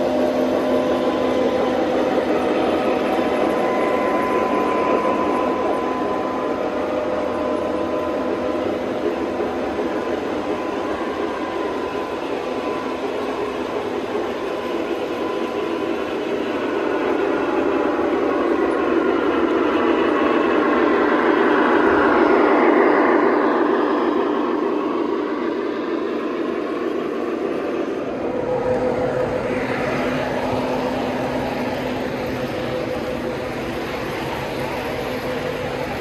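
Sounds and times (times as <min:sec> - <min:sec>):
model trains rumbling on track: 0:00.0 - 0:36.0.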